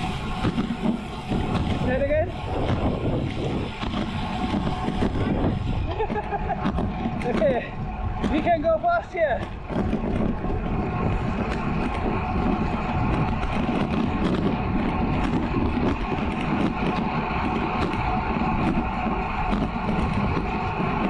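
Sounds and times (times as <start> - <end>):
bicycle tyres humming on tarmac: 0.0 - 21.0
wind rushing over microphone: 0.0 - 21.0.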